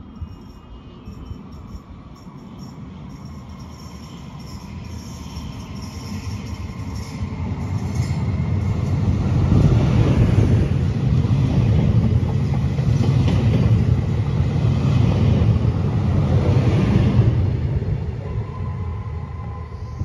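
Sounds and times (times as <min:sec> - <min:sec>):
electric train rumbling past: 0:00.0 - 0:20.0.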